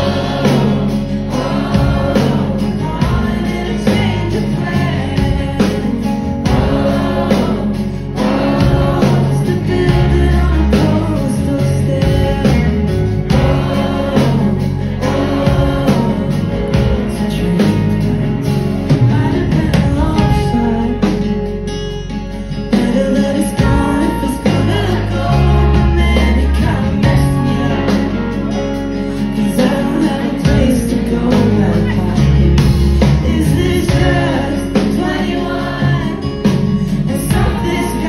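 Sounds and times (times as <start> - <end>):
band playing guitars bass drums: 0.0 - 38.0
woman singing: 1.4 - 18.1, 18.9 - 21.5, 22.7 - 28.5, 29.3 - 38.0.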